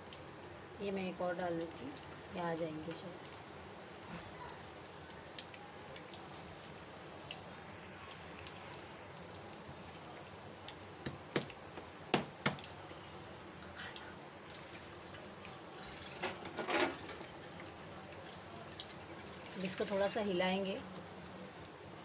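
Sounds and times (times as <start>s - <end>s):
hot oil sizzling: 0.0s - 22.0s.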